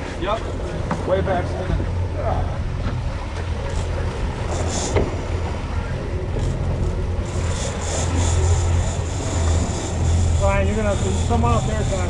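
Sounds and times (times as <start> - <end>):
boat engine droning: 0.0 - 12.0
wind and water rush: 0.0 - 12.0.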